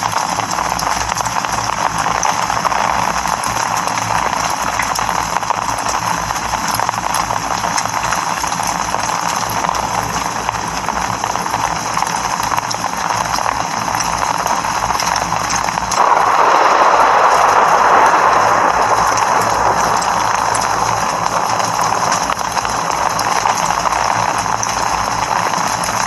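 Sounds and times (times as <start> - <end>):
steady rain patter: 0.0 - 26.0.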